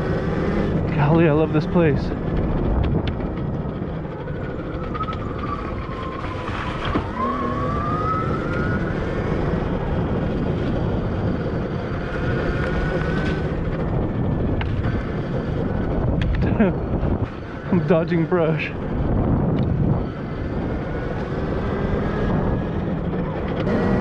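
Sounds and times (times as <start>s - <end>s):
wind rushing on microphone: 0.0s - 24.0s
electric motor whining: 1.5s - 24.0s.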